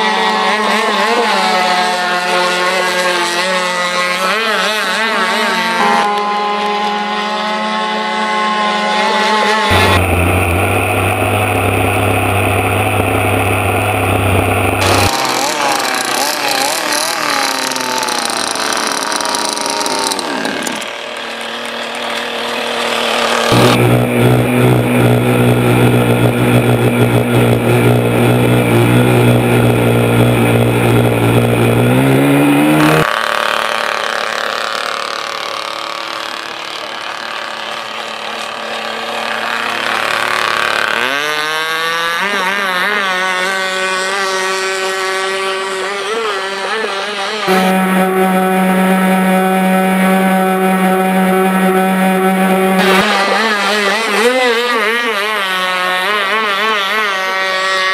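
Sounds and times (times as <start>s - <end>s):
model boat engine buzzing: 0.0s - 57.9s.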